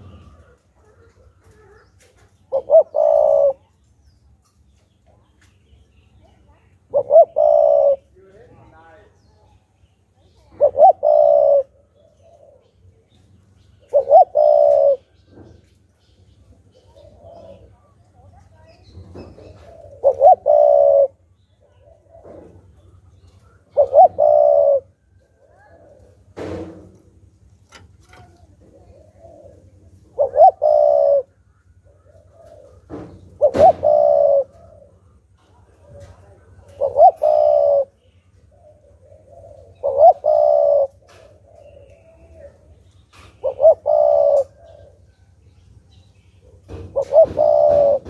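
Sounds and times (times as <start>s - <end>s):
dove cooing: 0.0s - 3.8s, 6.6s - 9.6s, 10.3s - 13.0s, 13.6s - 15.7s, 16.4s - 18.5s, 19.1s - 26.7s, 28.0s - 48.0s.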